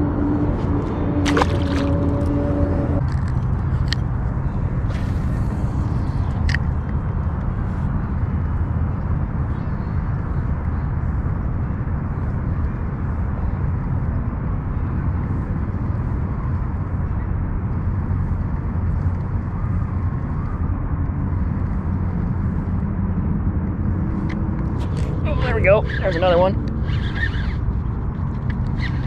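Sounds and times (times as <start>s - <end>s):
steady low rumble with hum: 0.0s - 29.0s.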